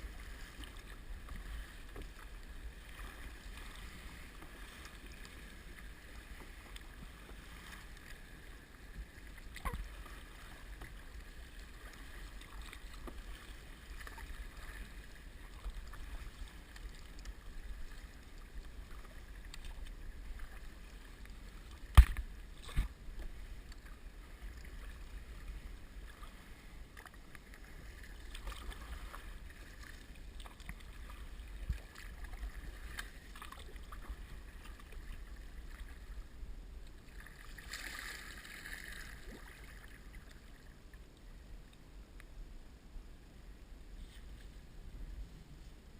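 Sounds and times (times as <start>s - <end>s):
faint water sounds: 0.0s - 45.9s
water and wind rumble: 0.0s - 45.9s.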